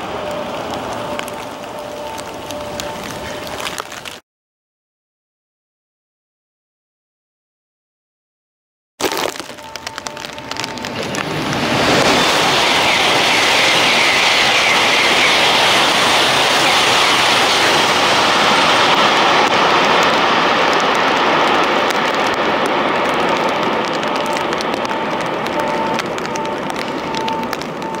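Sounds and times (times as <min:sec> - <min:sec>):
high-speed train passing: 0:00.0 - 0:04.1, 0:09.5 - 0:28.0.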